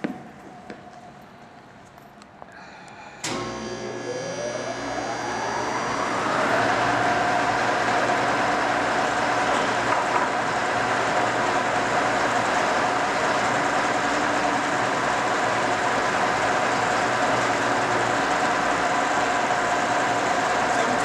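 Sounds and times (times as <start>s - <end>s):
milling machine motor whining: 2.8s - 21.0s.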